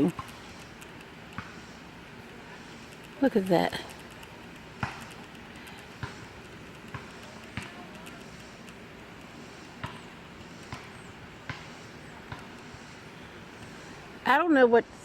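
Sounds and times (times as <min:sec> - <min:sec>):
squirrel clicking calls: 0:00.0 - 0:01.9, 0:02.6 - 0:14.1
faint outdoor hiss: 0:00.0 - 0:15.0.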